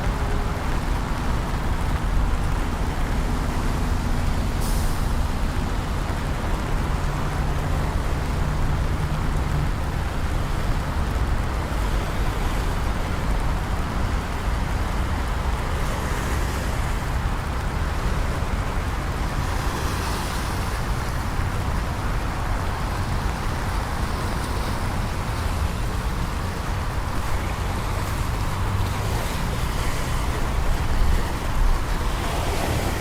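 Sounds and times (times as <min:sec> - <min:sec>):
traffic rumble on wet streets: 0:00.0 - 0:33.0
tyres hissing on wet pavement: 0:00.0 - 0:33.0.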